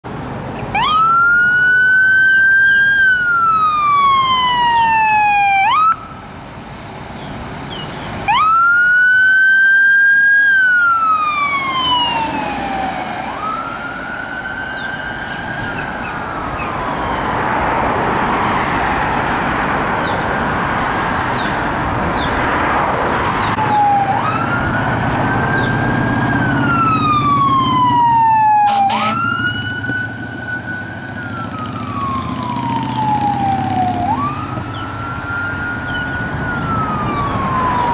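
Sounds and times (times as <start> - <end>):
truck engines and tyres rumbling: 0.0 - 37.9
sirens wailing: 0.7 - 6.4, 8.2 - 37.9.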